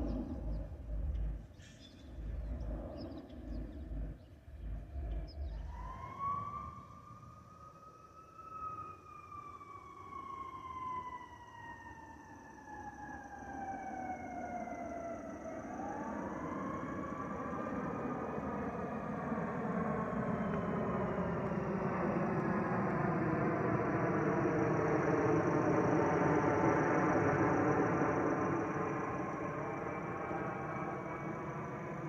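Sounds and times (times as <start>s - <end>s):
jet engine roar: 0.0s - 7.9s, 8.6s - 32.0s
jet engine whine: 0.0s - 32.0s.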